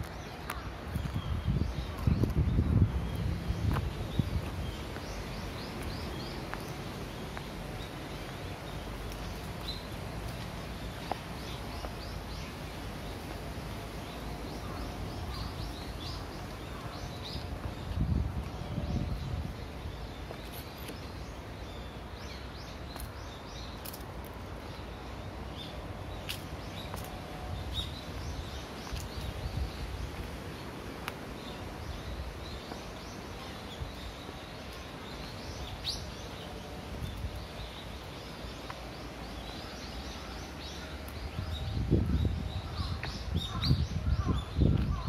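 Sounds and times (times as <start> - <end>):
small birds chirping: 0.0 - 45.0
steady outdoor hiss: 0.0 - 45.0.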